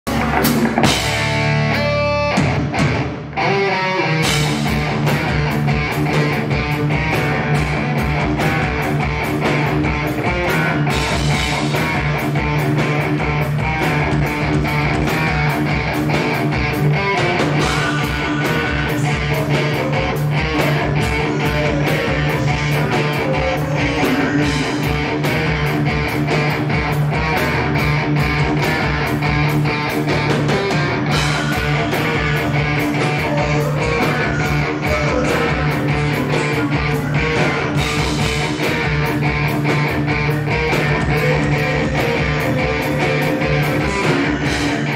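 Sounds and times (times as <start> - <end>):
steady drum beat: 0.0 - 3.3, 4.2 - 44.9
live metal band playing: 0.0 - 44.9.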